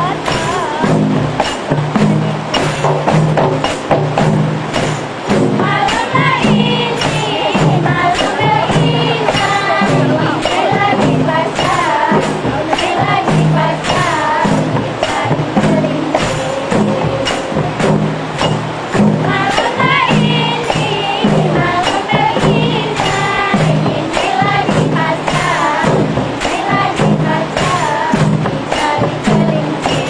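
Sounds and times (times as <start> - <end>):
frame drums beating: 0.0 - 30.0
voices singing religious song: 0.0 - 30.0.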